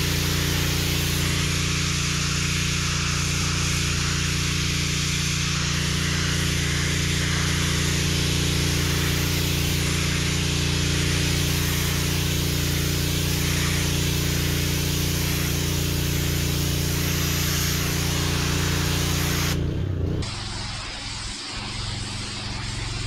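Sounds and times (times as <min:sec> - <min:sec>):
pressure washer motor droning: 0:00.0 - 0:23.0
water jet hissing on brick: 0:00.0 - 0:23.0.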